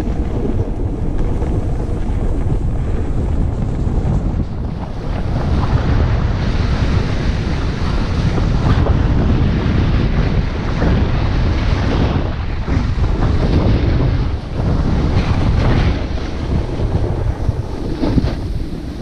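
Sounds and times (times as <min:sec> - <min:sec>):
skis scraping on snow: 0:00.0 - 0:19.0
wind buffeting microphone: 0:00.0 - 0:19.0.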